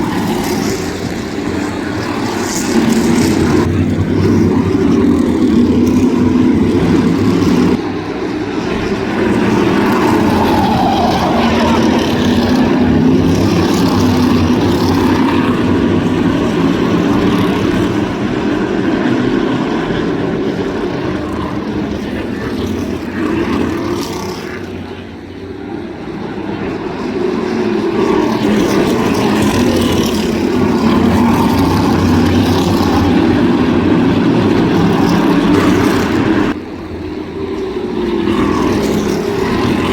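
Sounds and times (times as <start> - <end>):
race car engines passing: 0.0 - 39.9.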